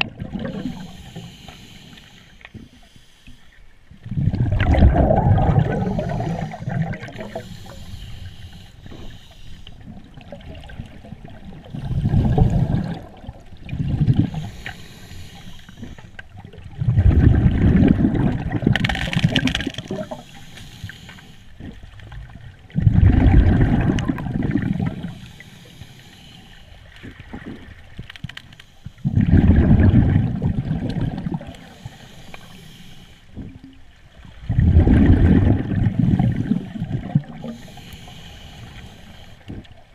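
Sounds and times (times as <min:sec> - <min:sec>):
underwater exhaust bubbles: 0:00.0 - 0:39.9.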